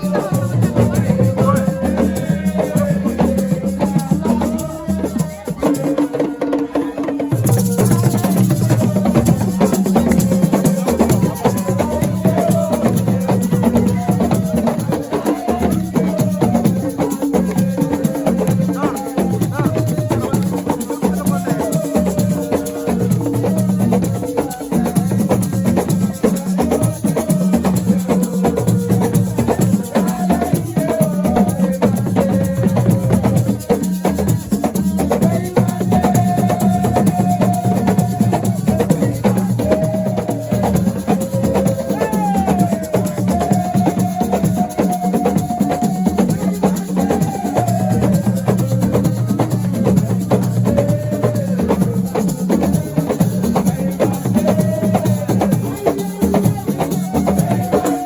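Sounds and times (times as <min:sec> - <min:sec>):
fast hand percussion: 0:00.0 - 0:58.0
shaker rattles: 0:00.0 - 0:58.0.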